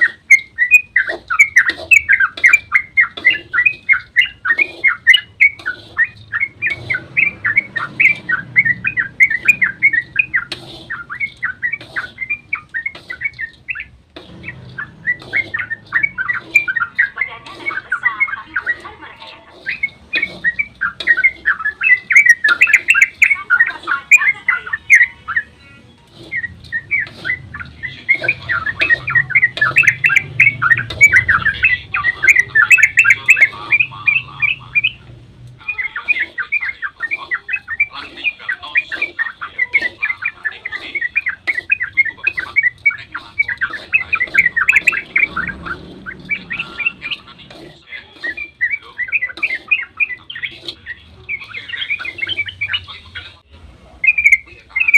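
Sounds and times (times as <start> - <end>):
bird singing chattering notes: 0.0 - 53.4, 54.0 - 54.9.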